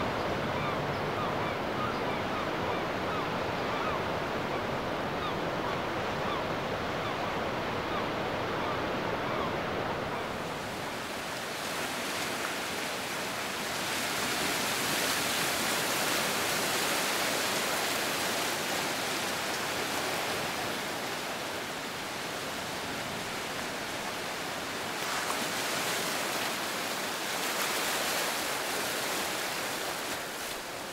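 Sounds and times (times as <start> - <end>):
waves breaking on sandy beach: 5.9 - 30.9.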